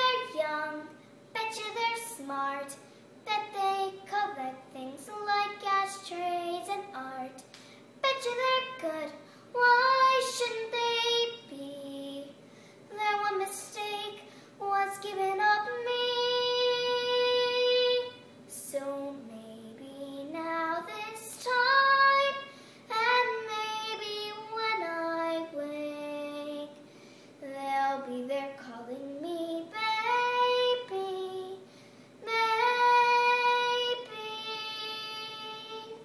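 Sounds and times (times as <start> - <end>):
girl singing a show tune: 0.0 - 36.0.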